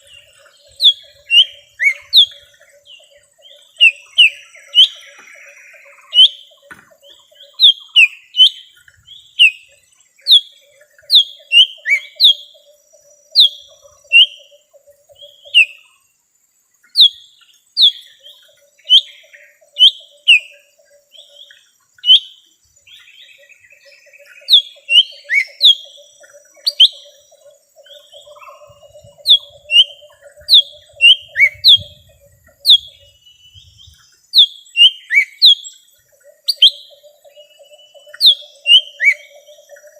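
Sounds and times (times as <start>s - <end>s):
bird whistled calls: 0.0s - 2.6s, 3.4s - 8.7s, 9.3s - 12.6s, 13.3s - 15.9s, 16.9s - 39.9s.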